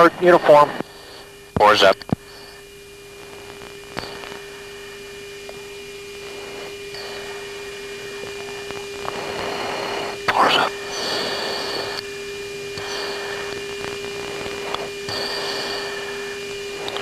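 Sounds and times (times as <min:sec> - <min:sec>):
radio hiss: 0:00.0 - 0:17.0
steady hum-like tone: 0:00.0 - 0:17.0.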